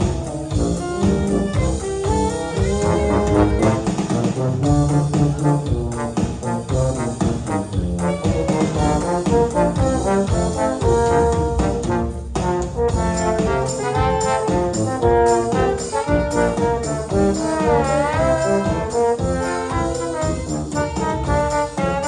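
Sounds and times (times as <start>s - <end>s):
orchestra playing hymn tune: 0.0s - 22.0s.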